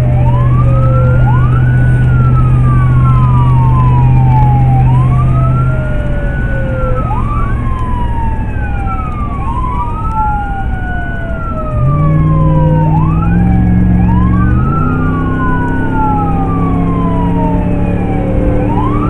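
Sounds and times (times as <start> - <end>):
electronic siren wailing: 0.0 - 19.0
low steady drone: 0.0 - 19.0.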